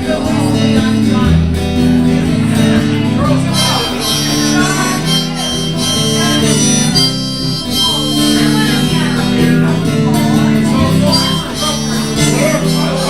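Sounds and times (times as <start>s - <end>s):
acoustic guitar accompaniment: 0.0s - 13.0s
harmonica melody: 0.1s - 13.0s.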